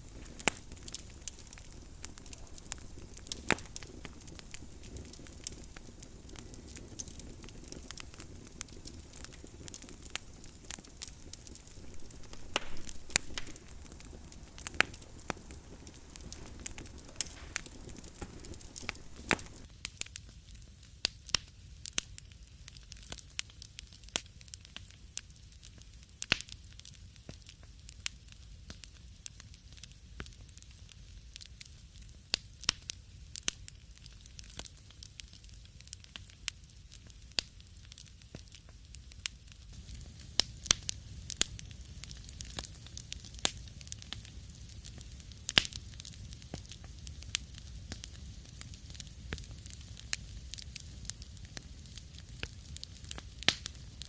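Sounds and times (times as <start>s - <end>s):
wood fire crackling: 0.0s - 20.4s, 21.0s - 54.0s.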